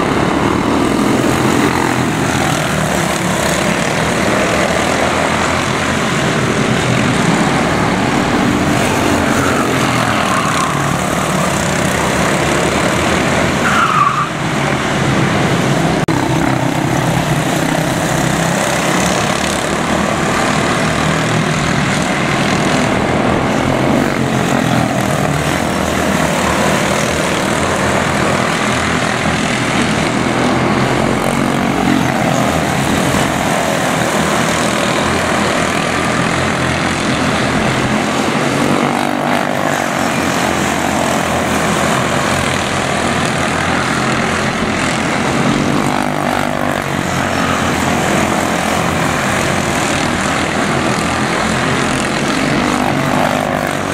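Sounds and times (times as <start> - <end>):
engine whine: 0.0 - 53.9
race car engines buzzing: 0.0 - 53.9.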